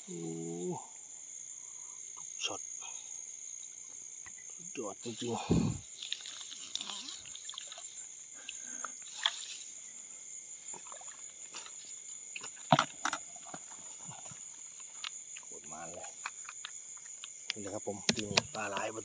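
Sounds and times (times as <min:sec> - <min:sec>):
night insects chorus: 0:00.0 - 0:19.0.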